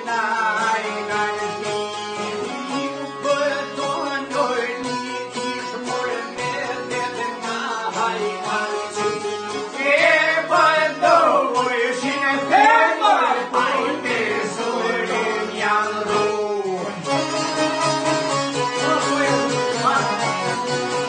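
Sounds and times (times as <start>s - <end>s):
man singing folk song: 0.0s - 17.5s, 18.5s - 21.0s
accordion: 0.0s - 21.0s
plucked lutes: 0.0s - 21.0s.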